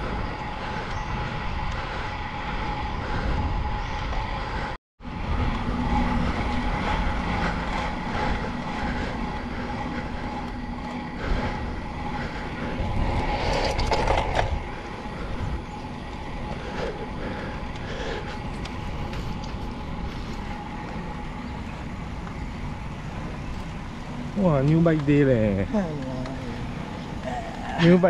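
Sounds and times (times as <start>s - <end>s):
wind rush over microphone: 0.0s - 23.9s.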